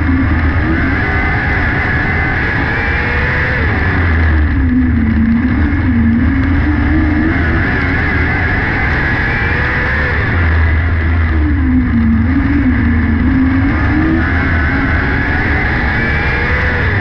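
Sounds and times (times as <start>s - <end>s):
racing motorcycle engine: 0.0s - 17.0s.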